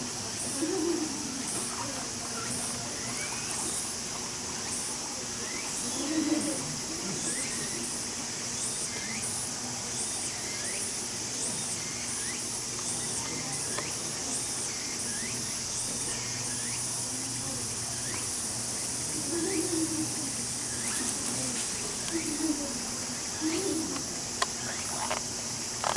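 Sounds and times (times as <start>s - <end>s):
pulsing high-pitched insect drone: 0.0s - 25.9s.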